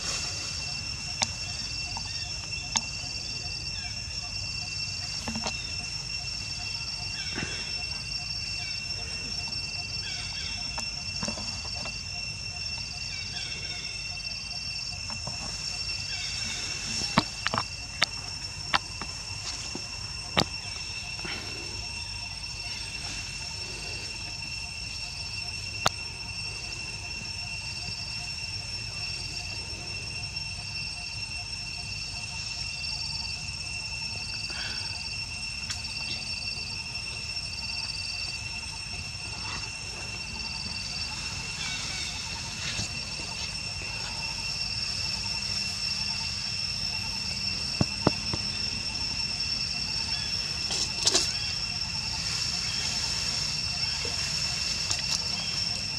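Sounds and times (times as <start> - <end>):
insect chirp: 0.0 - 55.9
insects droning: 0.0 - 55.9.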